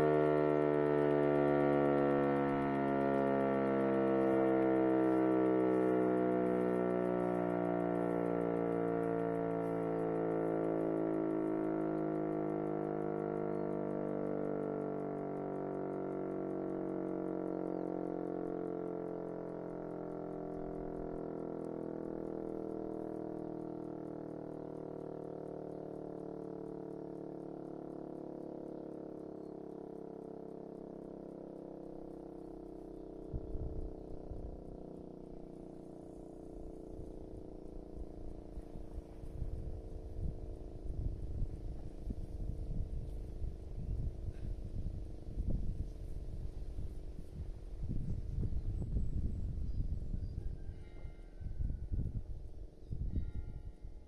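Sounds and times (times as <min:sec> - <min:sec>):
siren winding down: 0:00.0 - 0:48.5.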